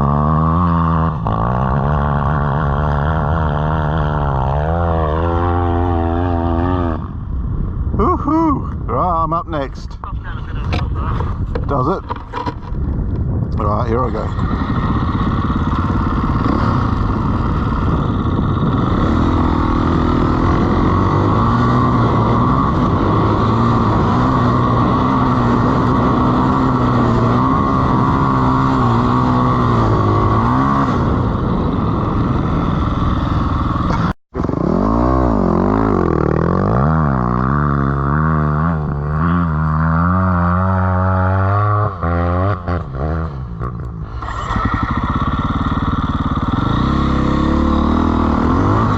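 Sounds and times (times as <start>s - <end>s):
dirt bike engine revving: 0.0s - 7.2s, 13.7s - 48.9s.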